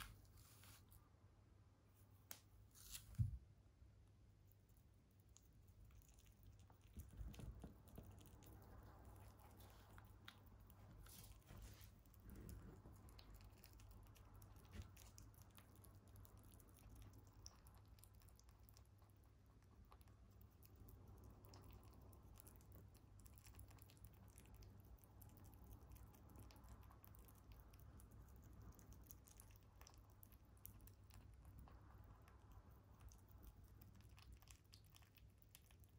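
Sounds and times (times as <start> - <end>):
low steady hum: 0.0 - 35.9
rabbit chewing and licking: 2.0 - 35.9.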